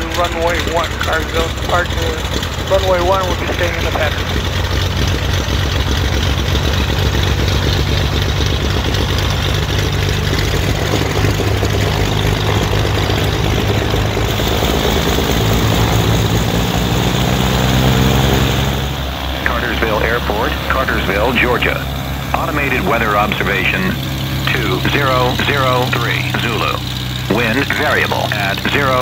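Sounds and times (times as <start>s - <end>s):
twin piston aircraft engines: 0.0s - 29.0s.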